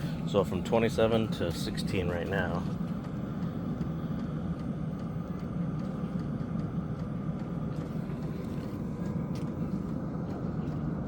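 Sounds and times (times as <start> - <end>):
air heater blower drone: 0.0 - 11.0.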